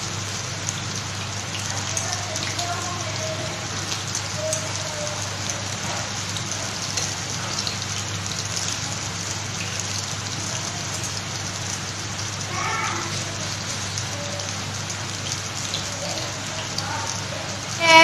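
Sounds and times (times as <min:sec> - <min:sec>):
oil sizzling in a frying pan: 0:00.0 - 0:18.0.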